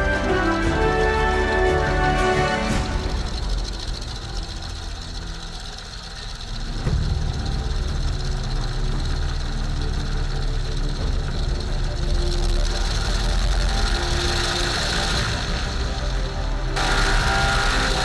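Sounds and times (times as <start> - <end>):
radial aircraft engine idling: 0.0 - 18.0.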